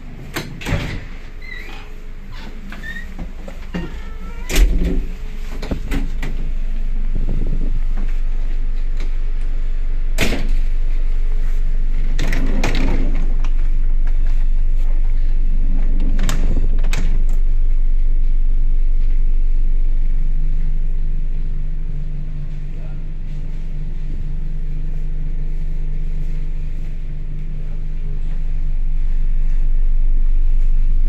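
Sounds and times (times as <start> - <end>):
electric train rumbling: 0.0 - 31.0
low hum: 0.0 - 31.0.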